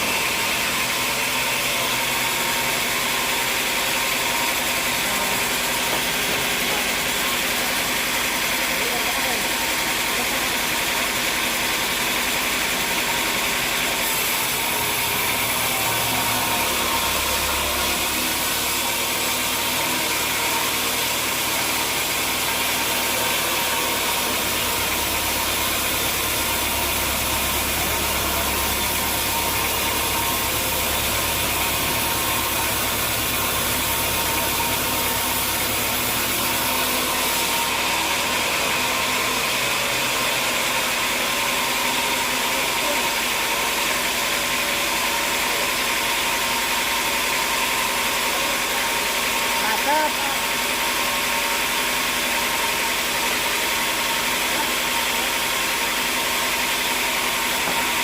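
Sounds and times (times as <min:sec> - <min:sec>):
sawmill machinery drone: 0:00.0 - 0:58.0.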